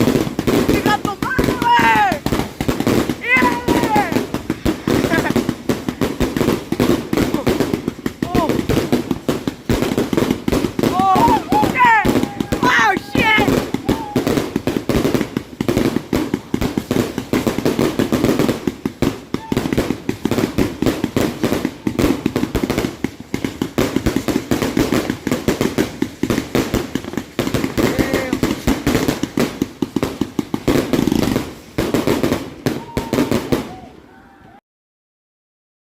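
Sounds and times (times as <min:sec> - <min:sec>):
fireworks bangs and crackles: 0:00.0 - 0:34.6.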